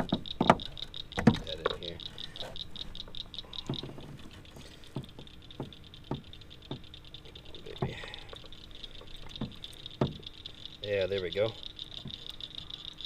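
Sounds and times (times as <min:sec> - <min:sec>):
sharp clicks and taps of gear: 0:00.0 - 0:12.7
pulsing night insect chorus: 0:00.0 - 0:13.0.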